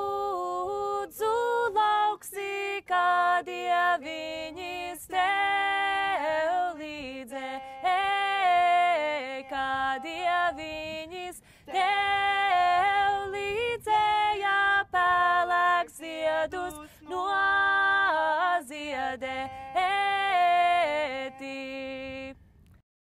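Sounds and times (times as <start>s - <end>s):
women singing unaccompanied: 0.0s - 22.5s.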